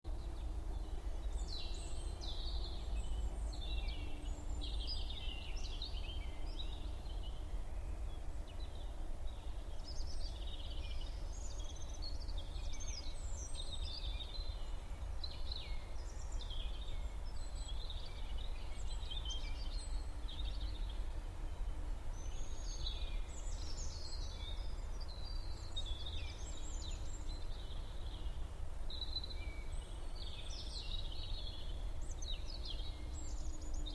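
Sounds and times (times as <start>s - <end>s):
songbirds singing and chirping: 0.1s - 33.9s.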